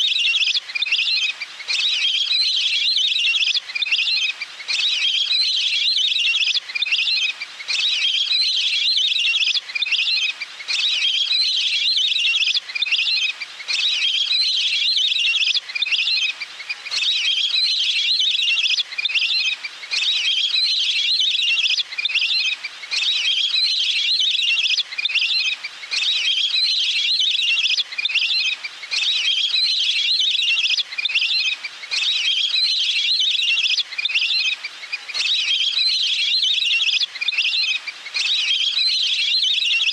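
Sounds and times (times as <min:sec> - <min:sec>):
recorded waterbird trilling call: 0:00.0 - 0:39.9.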